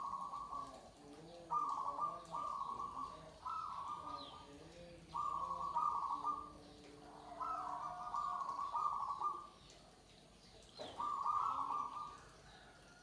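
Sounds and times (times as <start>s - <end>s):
doves cooing: 0.0s - 9.6s, 10.8s - 13.0s.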